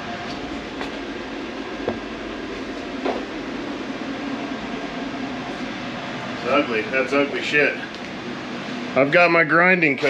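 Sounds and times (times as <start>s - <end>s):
machinery drone with hiss: 0.0s - 10.0s.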